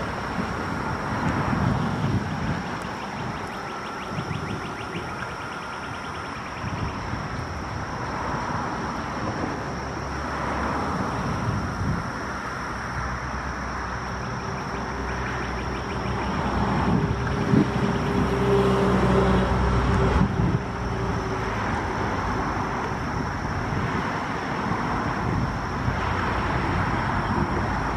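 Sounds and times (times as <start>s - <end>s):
road traffic noise: 0.0s - 27.9s
vehicle engine drone passing: 0.0s - 27.9s.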